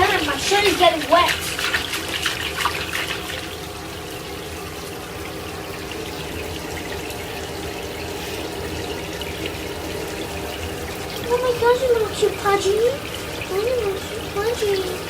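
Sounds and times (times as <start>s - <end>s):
shower water running into tub: 0.0s - 15.0s
water splashing: 0.0s - 15.0s.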